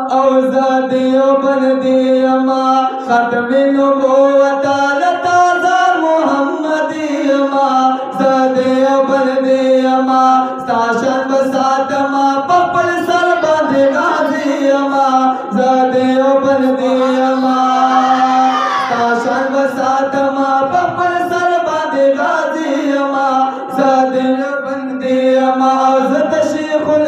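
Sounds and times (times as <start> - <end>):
men singing devotional verse: 0.0 - 27.0.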